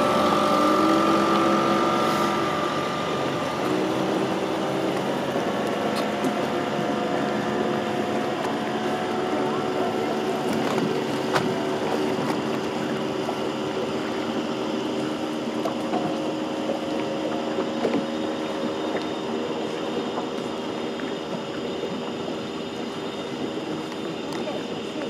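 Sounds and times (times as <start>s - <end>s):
outboard engine idling: 0.0s - 25.0s.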